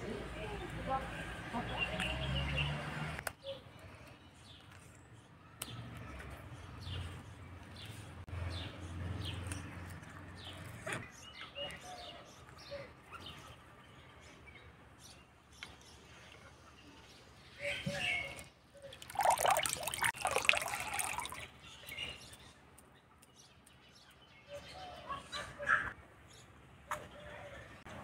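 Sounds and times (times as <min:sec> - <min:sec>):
small birds chirping: 0:01.6 - 0:27.9.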